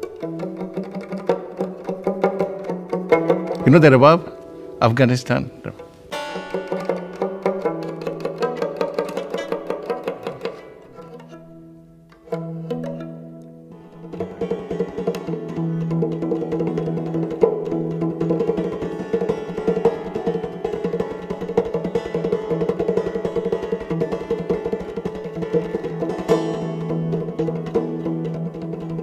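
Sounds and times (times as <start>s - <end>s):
plucked strings: 0.0s - 29.0s.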